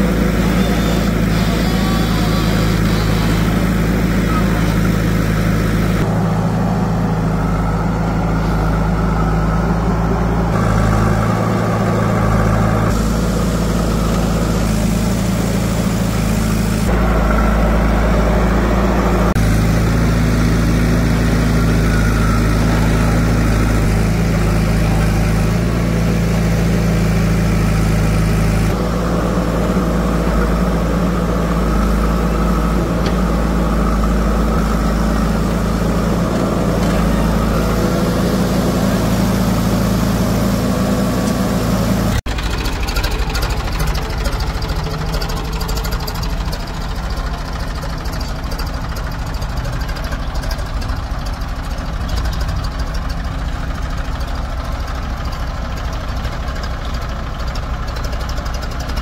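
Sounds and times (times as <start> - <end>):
diesel engines running at low revs: 0.0 - 59.0.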